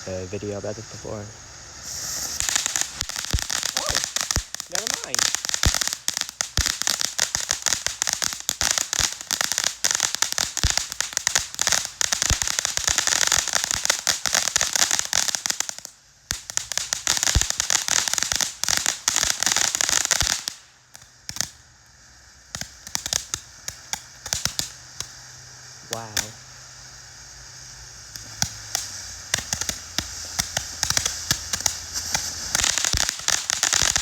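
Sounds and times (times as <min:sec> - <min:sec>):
firework crackling: 0:00.0 - 0:34.0.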